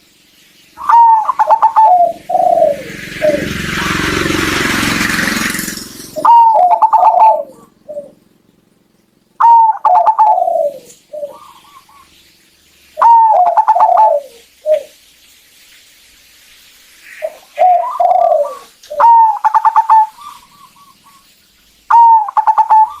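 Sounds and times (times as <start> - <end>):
dove cooing song: 0.8 - 12.2, 13.0 - 15.0, 17.0 - 23.0.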